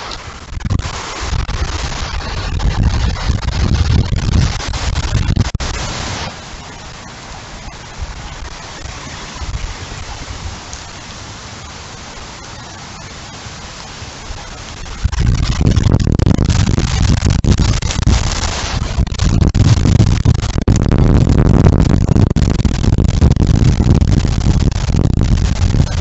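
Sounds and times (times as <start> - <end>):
heavy rain: 0.0 - 26.0
wind buffeting microphone: 0.0 - 26.0.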